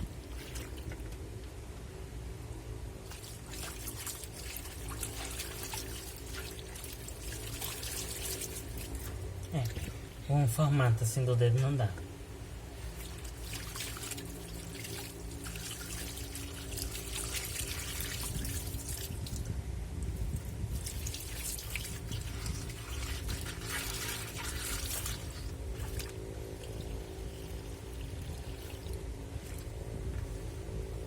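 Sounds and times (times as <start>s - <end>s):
water sloshing in washing machine: 0.0s - 1.2s, 3.0s - 10.6s, 12.5s - 31.0s
washing machine motor hum: 0.0s - 31.0s.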